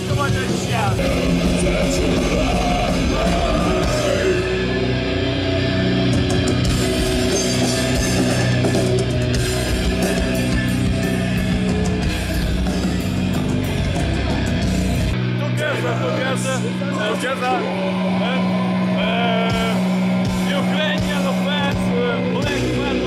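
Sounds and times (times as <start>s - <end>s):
heavy metal music with guitars: 0.0s - 23.0s.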